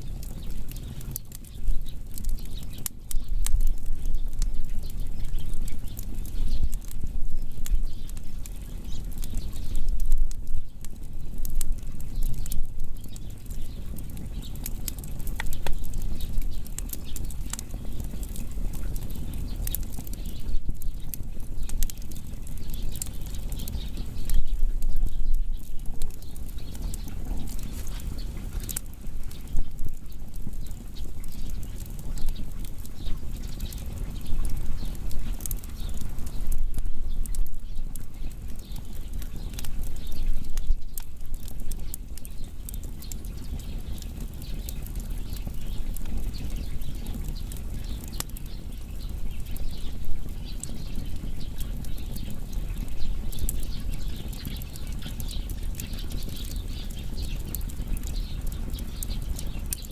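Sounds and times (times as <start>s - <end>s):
firewood crackling and popping: 0.0s - 59.9s
low rumble of fire: 0.0s - 59.9s.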